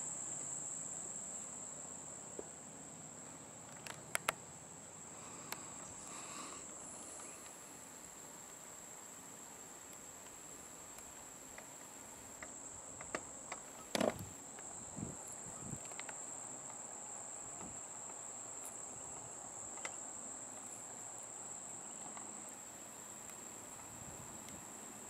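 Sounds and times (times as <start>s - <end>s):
insect chorus chirring: 0.0s - 25.0s.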